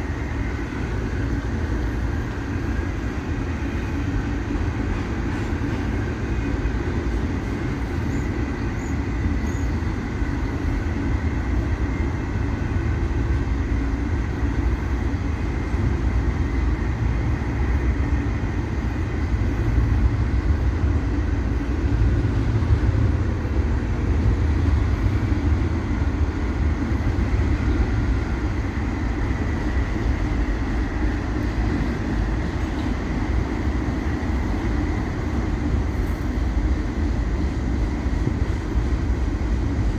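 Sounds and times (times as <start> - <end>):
freight train rumbling on rails: 0.0 - 39.9.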